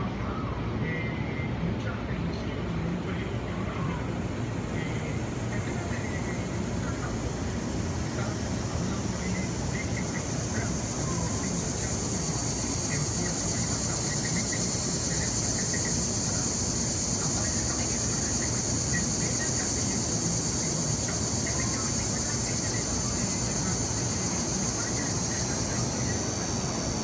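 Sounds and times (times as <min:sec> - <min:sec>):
cicada buzzing: 0:00.0 - 0:27.0.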